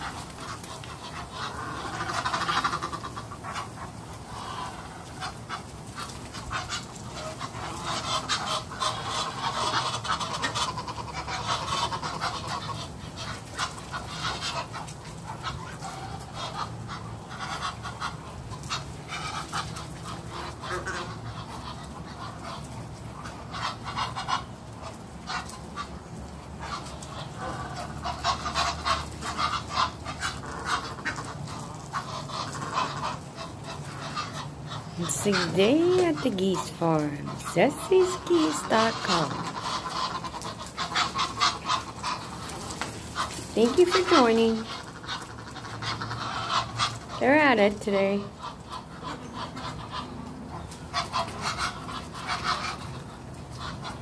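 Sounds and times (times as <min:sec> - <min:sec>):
geese calling: 0:00.0 - 0:54.0.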